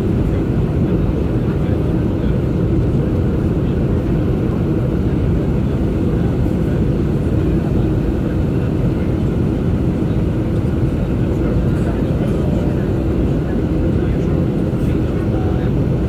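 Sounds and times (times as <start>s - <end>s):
jet airliner low rumble: 0.0s - 16.0s.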